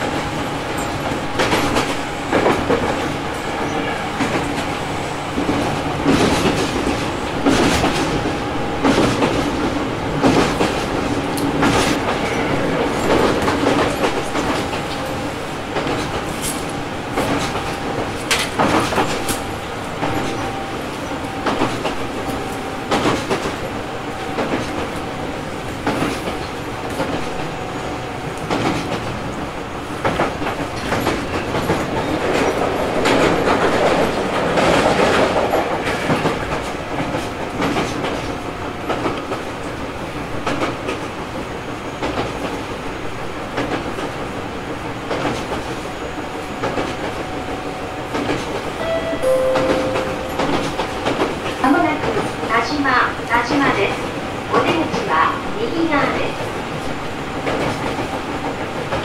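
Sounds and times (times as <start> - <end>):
train rolling and motor noise: 0.0 - 59.0.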